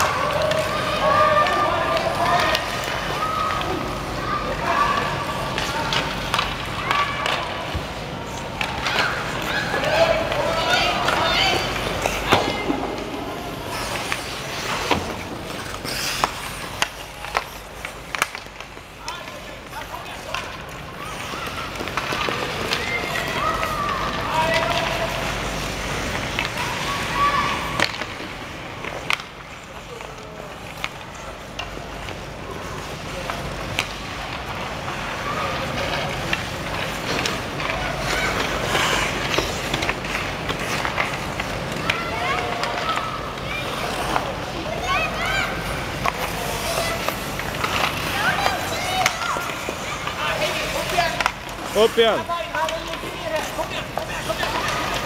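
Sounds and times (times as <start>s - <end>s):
faint children's voices: 0.0s - 51.8s
hockey sticks clacking: 0.0s - 55.0s
skates scraping on ice: 0.0s - 55.0s.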